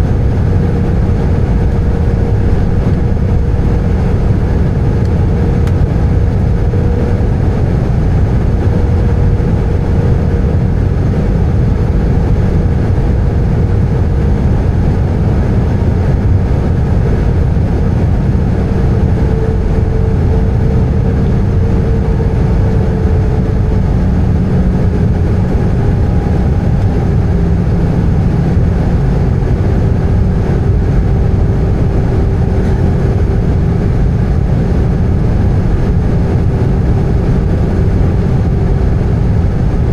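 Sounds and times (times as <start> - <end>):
airplane cabin engine and airflow noise: 0.0 - 39.9.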